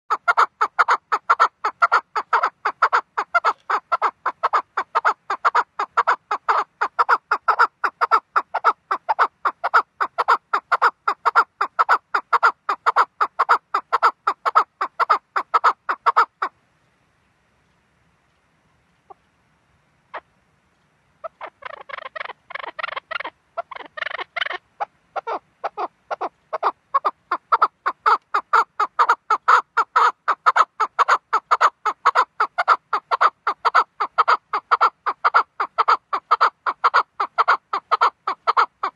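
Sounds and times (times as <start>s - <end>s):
partridge calling rapidly: 0.1s - 16.6s, 21.2s - 38.9s.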